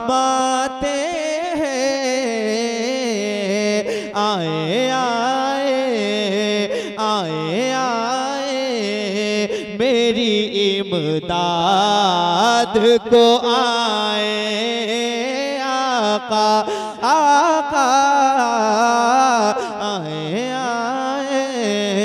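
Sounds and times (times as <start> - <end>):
man singing through loudspeaker: 0.0 - 22.0.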